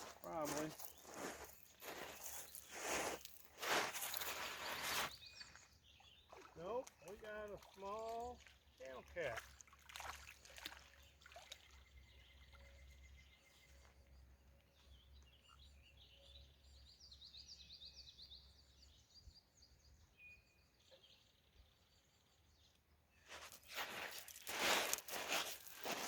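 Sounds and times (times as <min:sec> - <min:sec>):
faint birdsong chirping: 0:00.0 - 0:26.0
quiet riverside background: 0:00.0 - 0:26.0.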